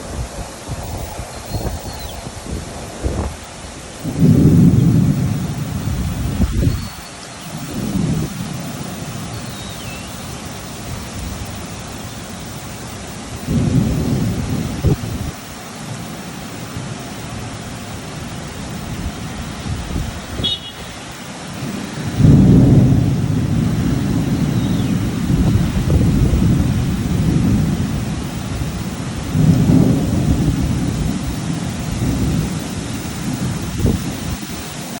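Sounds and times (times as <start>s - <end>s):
steady rain: 0.0s - 35.0s
low thunder rumbles: 4.0s - 20.9s, 21.5s - 34.7s.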